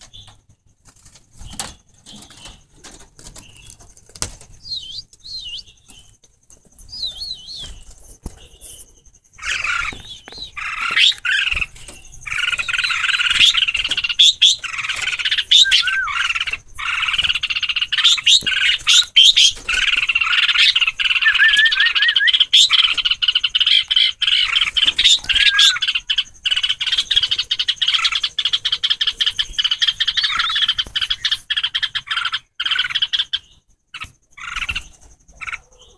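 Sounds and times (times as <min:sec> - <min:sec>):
bird chicks chirping: 0:00.0 - 0:35.9.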